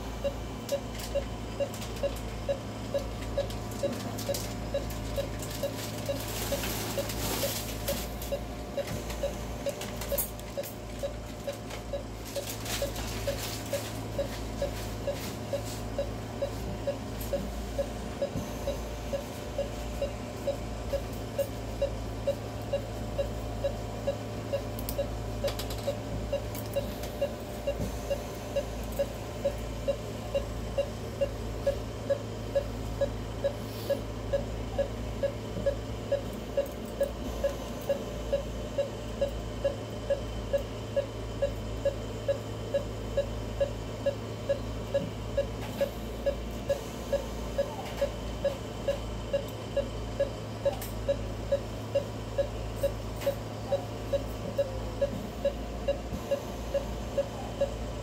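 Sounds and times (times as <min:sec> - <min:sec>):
patient monitor beeping: 0:00.0 - 0:58.0
steady electrical hum: 0:00.0 - 0:58.0.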